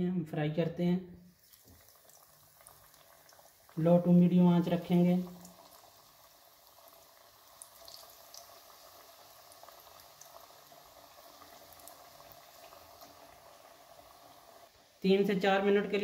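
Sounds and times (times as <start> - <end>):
food deep-frying in oil: 1.2 - 16.0.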